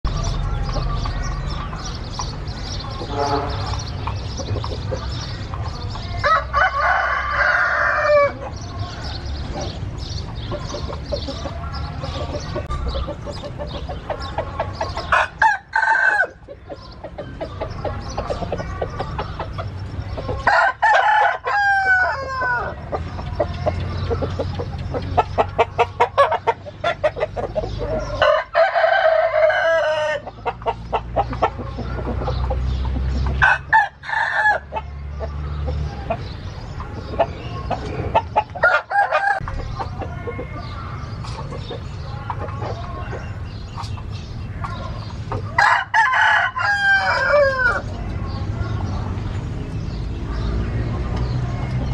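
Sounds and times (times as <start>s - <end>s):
chicken clucking: 0.1s - 51.9s
roosters crowing: 0.2s - 43.9s, 44.5s - 48.9s.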